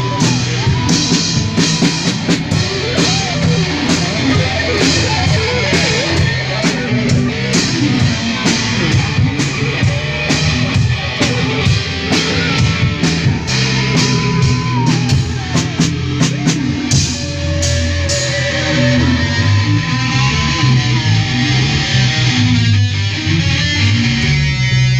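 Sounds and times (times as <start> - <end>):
drum kit beat with cymbals: 0.0 - 24.9
rock guitar: 0.0 - 24.9.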